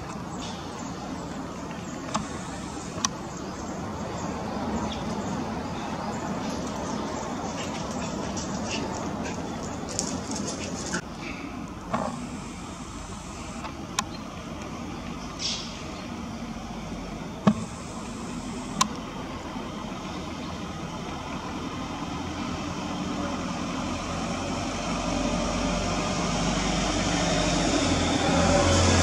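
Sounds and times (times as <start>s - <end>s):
vehicle approaching: 0.0s - 29.0s.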